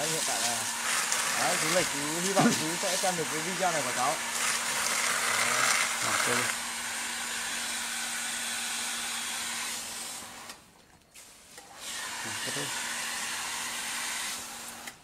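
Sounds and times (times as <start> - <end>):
water spraying from a hose: 0.0 - 10.5, 11.1 - 14.9.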